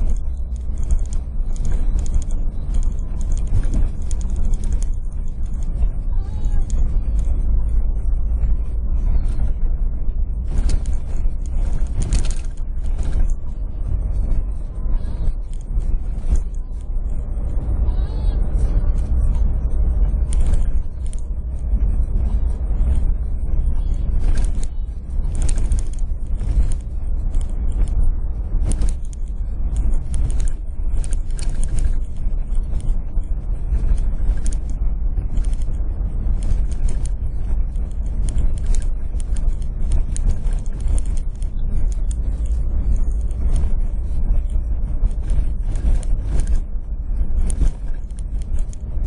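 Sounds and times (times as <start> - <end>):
engine and tyres rumbling: 0.0 - 49.0.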